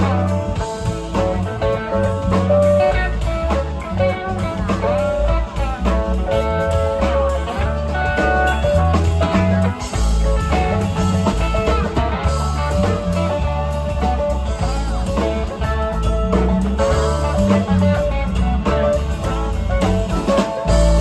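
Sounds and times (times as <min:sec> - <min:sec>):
bass guitar: 0:00.0 - 0:21.0
drums: 0:00.0 - 0:21.0
electric guitars: 0:00.0 - 0:21.0.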